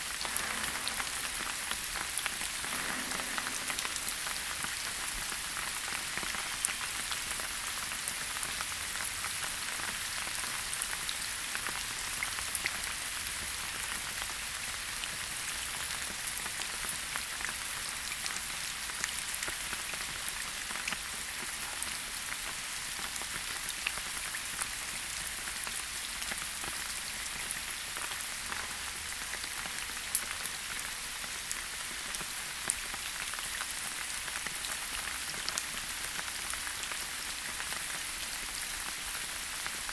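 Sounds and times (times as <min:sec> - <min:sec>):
raindrops pattering on leaves: 0:00.0 - 0:39.9
steady rain hiss: 0:00.0 - 0:39.9.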